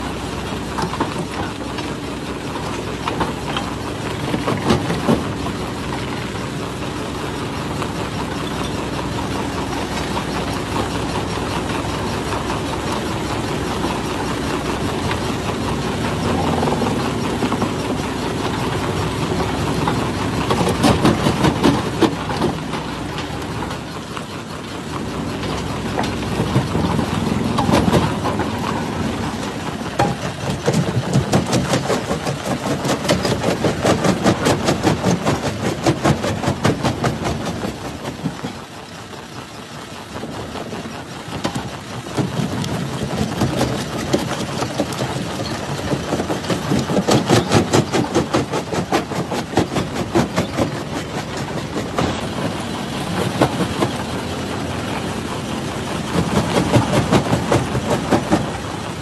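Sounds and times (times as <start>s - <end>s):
rock crusher mechanical drone: 0.0s - 59.0s.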